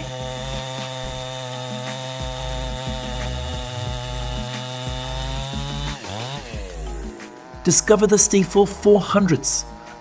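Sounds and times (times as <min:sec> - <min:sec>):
chainsaw engine at high revs: 0:00.0 - 0:10.0.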